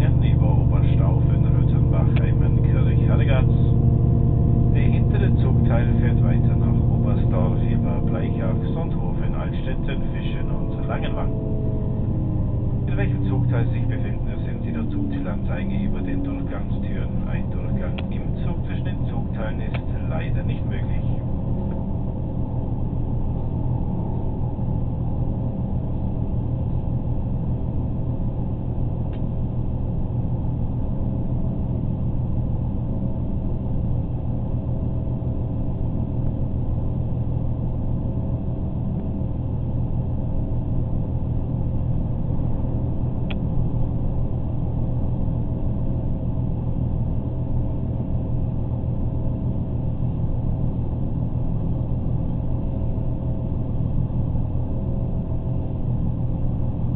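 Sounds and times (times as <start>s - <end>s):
faint steady whine: 0.0s - 56.9s.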